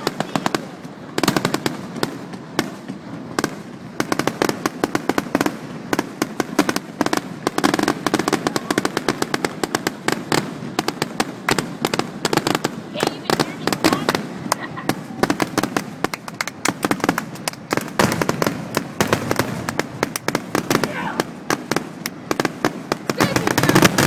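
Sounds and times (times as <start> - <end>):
fireworks cracking and popping: 0.0 - 24.0.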